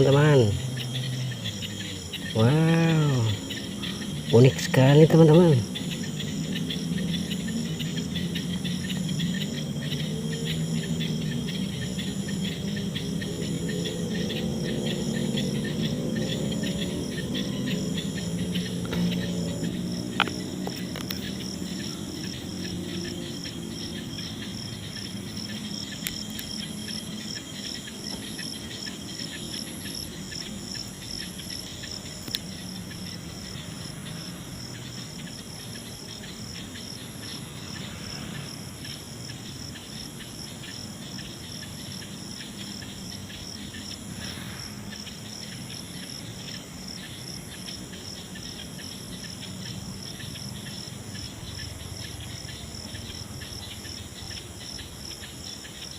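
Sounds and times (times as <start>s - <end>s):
crickets chirping in pulses: 0.0s - 55.9s
higher insect trill: 0.0s - 55.9s.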